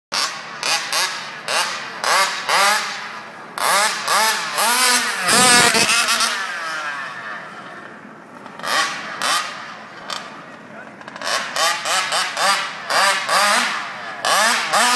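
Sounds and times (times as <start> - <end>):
rc car two-stroke engine revving: 0.1 - 10.3, 11.0 - 14.9.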